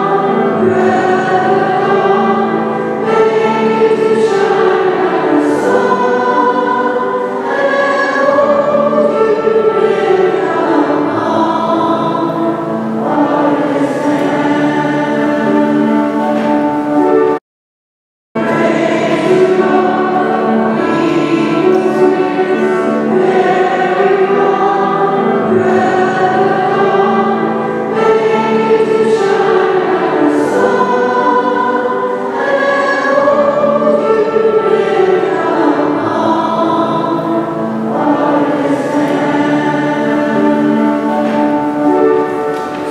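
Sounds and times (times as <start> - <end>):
choir singing: 0.0 - 17.4, 18.4 - 42.9.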